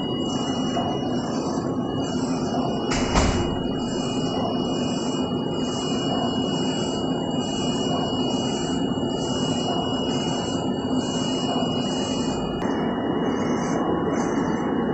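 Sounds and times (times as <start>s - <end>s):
low machine hum: 0.0s - 14.9s
printer high whine: 0.0s - 14.9s.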